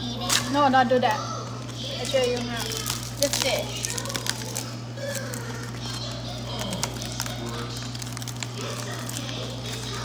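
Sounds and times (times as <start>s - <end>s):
aluminium foil crinkling: 0.2s - 10.0s.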